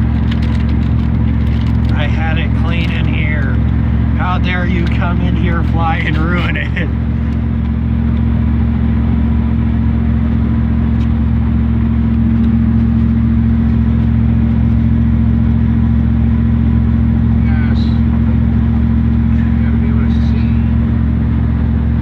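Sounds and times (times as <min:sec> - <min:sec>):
truck engine and road drone: 0:00.0 - 0:22.0.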